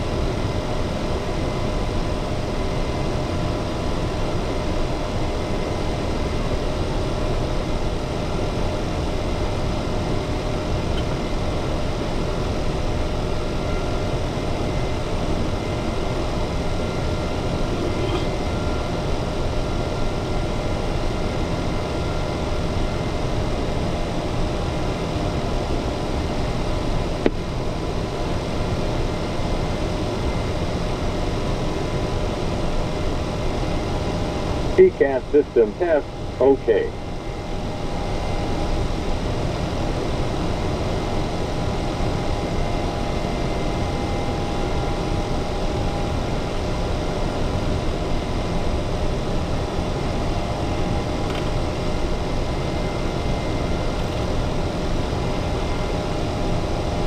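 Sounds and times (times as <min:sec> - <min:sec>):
ventilation hum and rush: 0:00.0 - 0:57.0.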